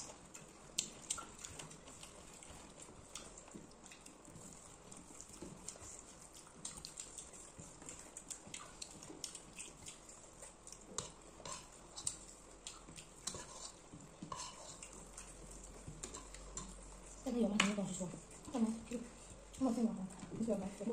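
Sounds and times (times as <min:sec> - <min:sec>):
fingers mixing food on plates: 0:00.0 - 0:20.9.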